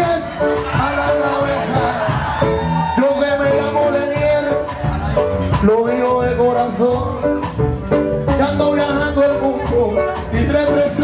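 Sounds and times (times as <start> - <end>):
live band music: 0.0 - 11.0.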